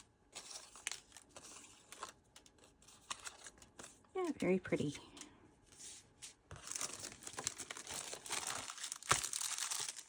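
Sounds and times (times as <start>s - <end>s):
paper crinkling and rustling: 0.0s - 5.0s, 5.7s - 10.0s.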